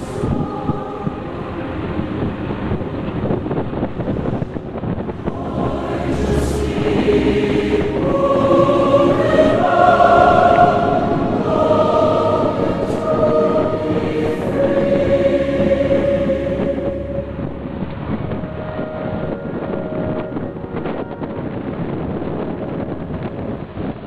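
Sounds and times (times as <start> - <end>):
choir singing held chords: 0.0 - 23.6.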